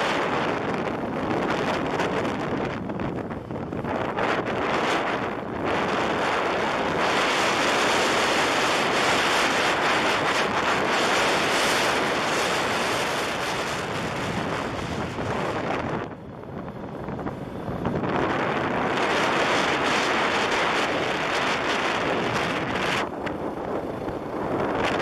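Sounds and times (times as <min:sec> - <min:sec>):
atv running on gravel: 0:00.0 - 0:25.0
wind rushing over microphone: 0:00.0 - 0:25.0.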